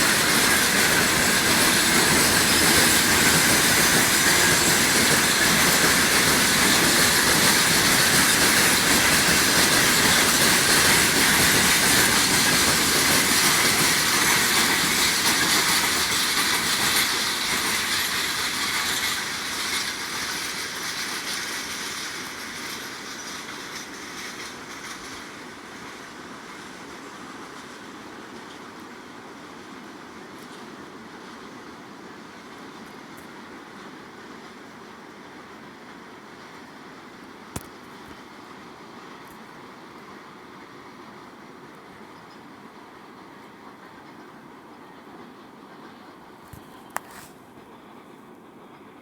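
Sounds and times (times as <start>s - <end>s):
train wheels clattering and screeching: 0.0s - 28.8s, 38.2s - 49.0s.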